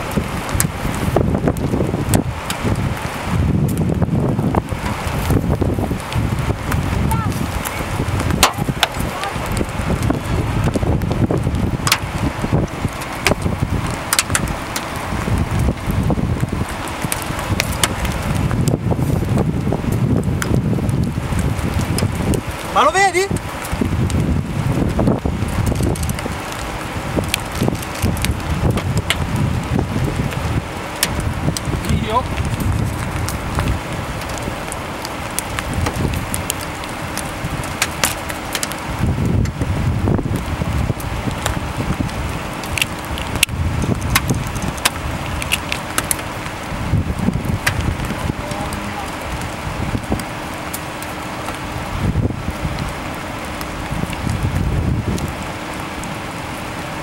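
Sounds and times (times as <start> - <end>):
low rumble: 0.0 - 57.0
wind buffeting microphone: 0.0 - 57.0.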